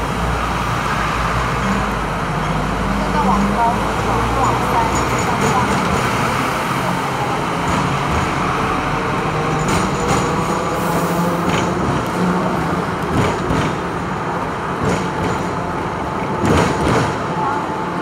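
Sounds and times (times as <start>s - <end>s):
tram motor and wheels rumbling: 0.0s - 18.0s.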